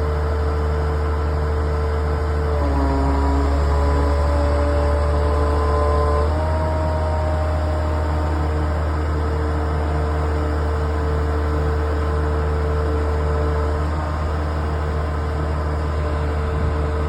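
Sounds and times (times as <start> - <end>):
truck engine droning with whine: 0.0 - 17.0.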